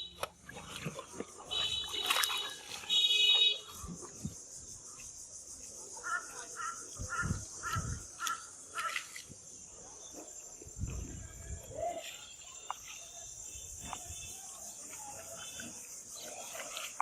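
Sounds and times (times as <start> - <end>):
high-pitched insect chorus: 1.0 - 17.0.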